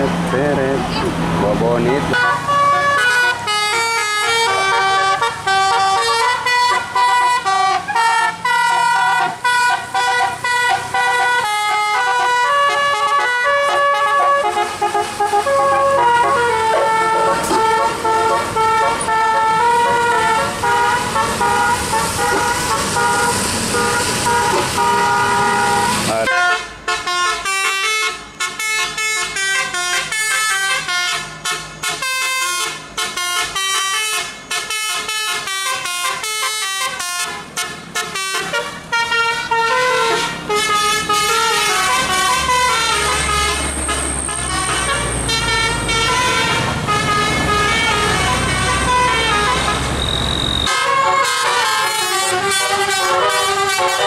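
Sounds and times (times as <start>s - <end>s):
bus musical air horns: 2.0s - 54.0s.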